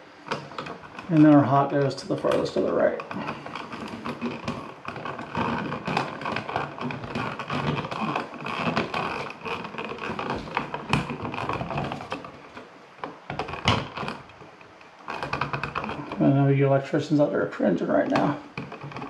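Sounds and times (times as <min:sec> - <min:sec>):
wire rustling and scraping: 0:00.1 - 0:19.0.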